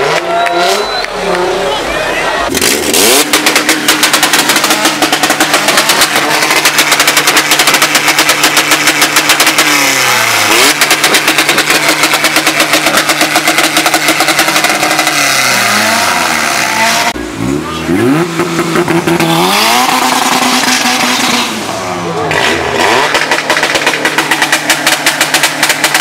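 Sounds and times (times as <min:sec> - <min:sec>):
car engine revving with pops: 0:02.5 - 0:21.6, 0:22.3 - 0:26.0.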